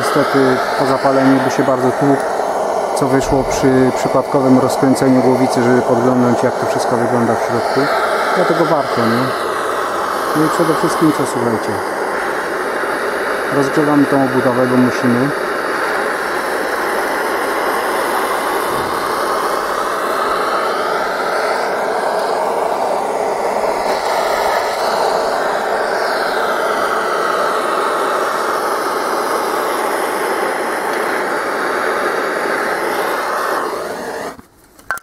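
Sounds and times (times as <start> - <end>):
gas torch hissing: 0.0 - 35.0.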